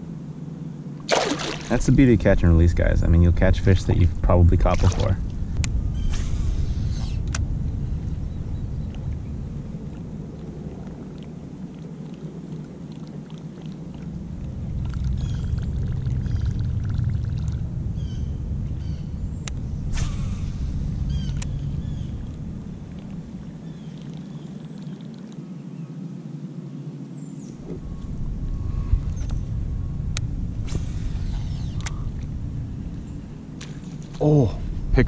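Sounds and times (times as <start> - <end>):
steady low rumble: 0.0 - 35.0
birds chirping: 4.9 - 26.0, 26.8 - 35.0.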